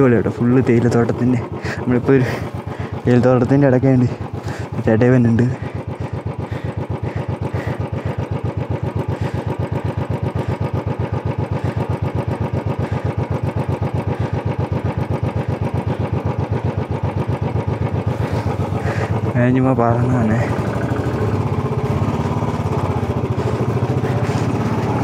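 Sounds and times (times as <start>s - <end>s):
motorcycle engine thumping at low revs: 0.0s - 25.0s.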